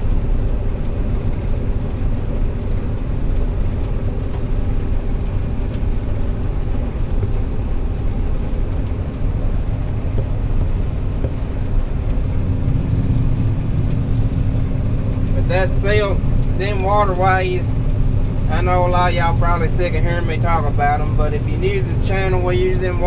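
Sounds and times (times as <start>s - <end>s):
combine harvester drone: 0.0s - 23.0s.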